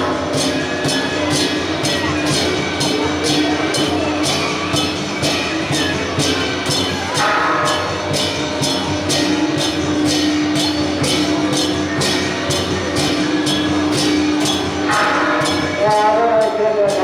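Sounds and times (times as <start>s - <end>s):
percussion crashes: 0.0s - 17.0s.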